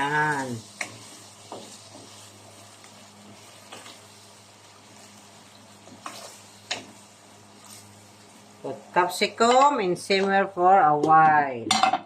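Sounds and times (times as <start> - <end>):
sauce bubbling and sizzling: 0.0 - 9.9.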